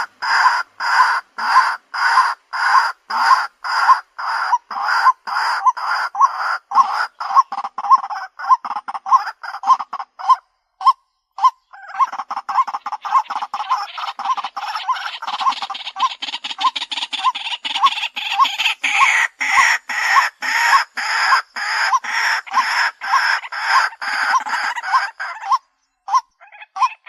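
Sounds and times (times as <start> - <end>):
waterhen harsh calls: 0.0 - 27.0.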